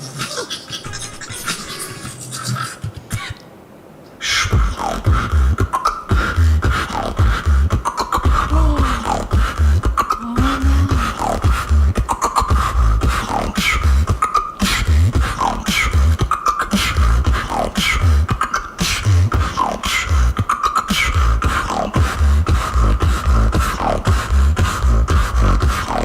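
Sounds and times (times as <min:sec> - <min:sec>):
woman beatboxing: 0:04.3 - 0:26.0.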